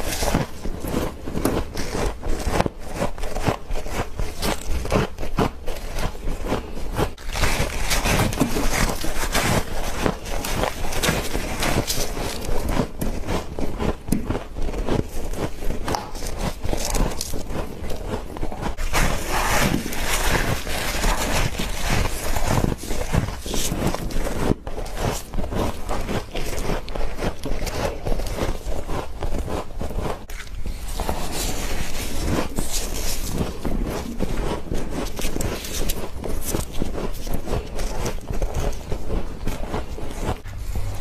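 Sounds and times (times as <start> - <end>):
frost being chewed: 0.0 - 41.0.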